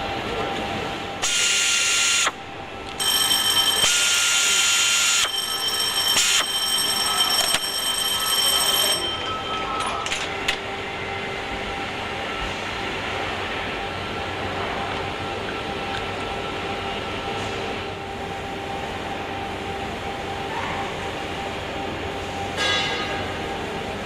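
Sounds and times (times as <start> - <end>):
factory background noise: 0.0 - 24.0
assembly-line machine whine: 1.0 - 22.5.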